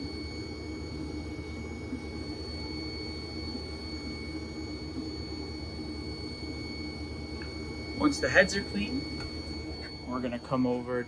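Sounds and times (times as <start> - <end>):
faint high whines: 0.0 - 11.0.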